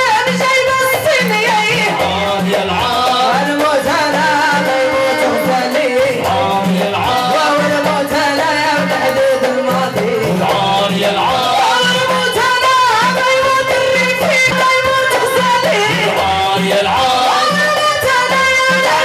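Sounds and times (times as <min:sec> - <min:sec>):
hand drum beat: 0:00.0 - 0:19.0
wavering melodic lead line: 0:00.0 - 0:19.0.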